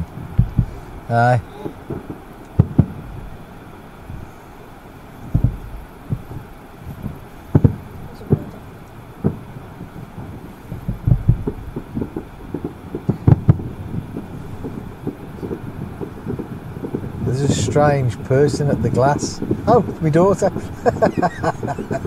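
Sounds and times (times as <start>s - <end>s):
distant fireworks thudding: 0.0s - 22.0s.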